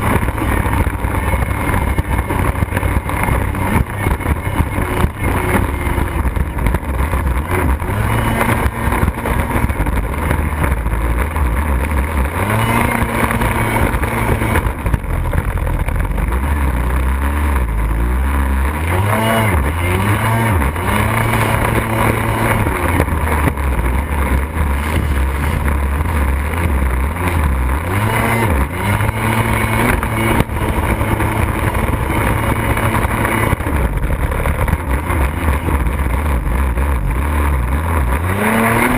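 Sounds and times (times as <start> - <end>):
jet ski engine revving: 0.0 - 38.9
steady rush of noise: 0.0 - 38.9.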